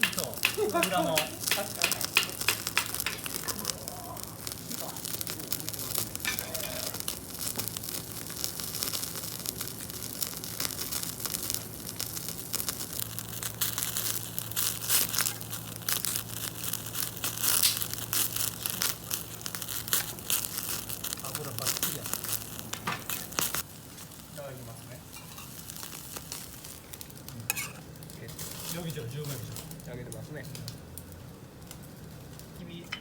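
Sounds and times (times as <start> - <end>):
fat crackling and popping: 0.0 - 33.0
steak sizzling over fire: 0.0 - 33.0.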